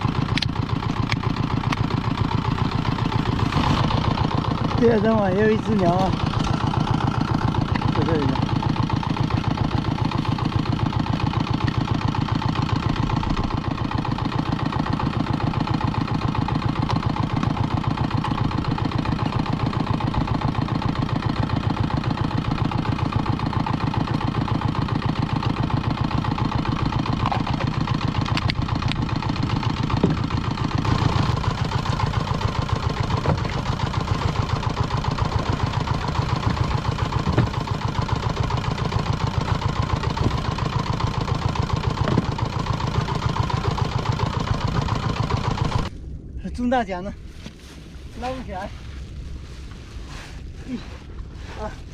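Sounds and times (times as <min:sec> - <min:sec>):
boat engine idling: 0:00.0 - 0:46.8.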